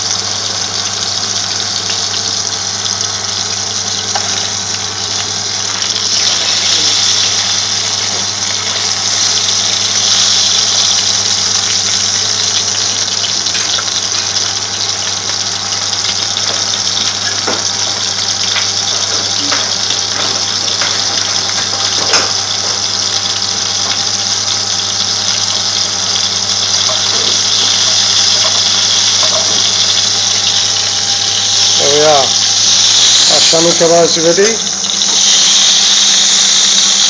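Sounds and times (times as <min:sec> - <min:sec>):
steady low hum: 0:00.0 - 0:33.4
food sizzling in hot oil: 0:00.0 - 0:37.0.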